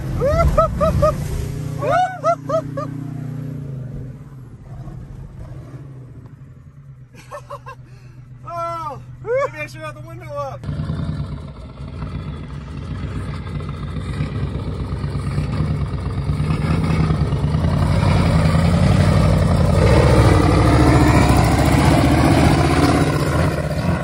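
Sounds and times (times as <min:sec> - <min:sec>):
diesel truck engine under throttle: 0:00.0 - 0:09.4, 0:10.5 - 0:24.0.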